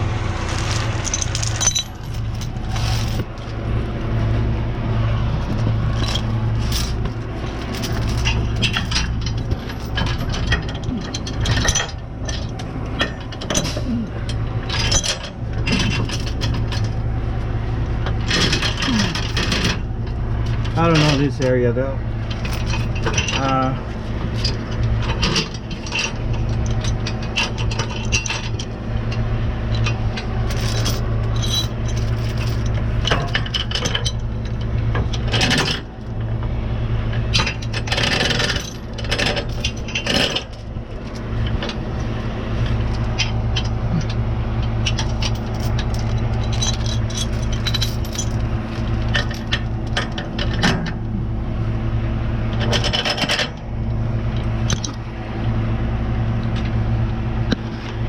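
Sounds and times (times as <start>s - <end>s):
truck engine idling: 0.0s - 58.0s
metal towing gear clanking: 0.3s - 4.4s, 5.4s - 51.4s, 52.4s - 55.4s.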